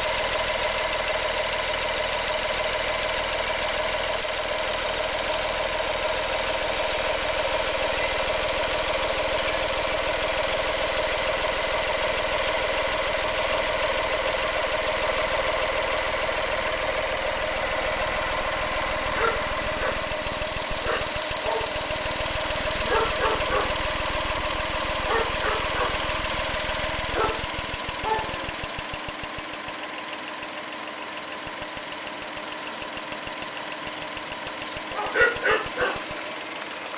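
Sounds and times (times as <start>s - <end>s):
truck engine idling: 0.0s - 36.9s.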